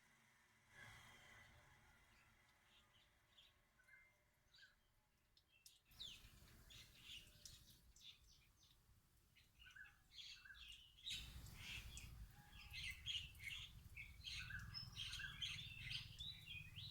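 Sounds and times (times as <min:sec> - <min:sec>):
faint birds chirping: 0:02.0 - 0:16.9.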